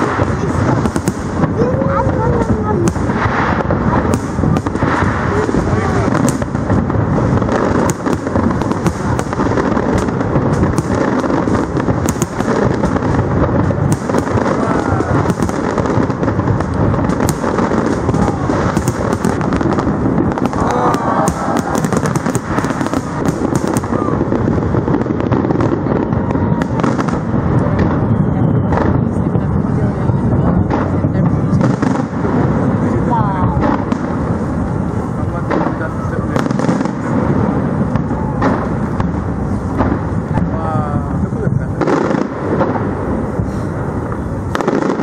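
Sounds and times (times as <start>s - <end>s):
fireworks booming: 0.0s - 45.0s
fireworks cracks and pops: 0.0s - 45.0s.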